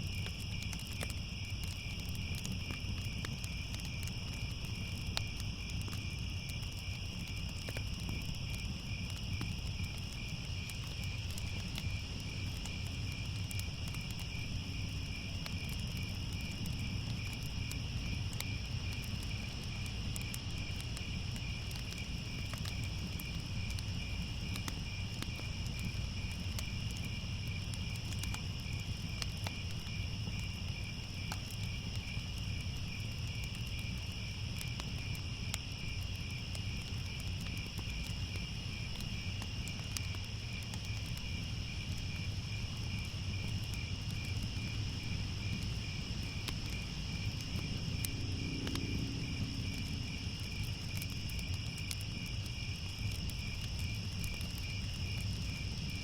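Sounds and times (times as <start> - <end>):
crickets chirping: 0.0 - 56.0
wood fire crackling: 0.0 - 56.0.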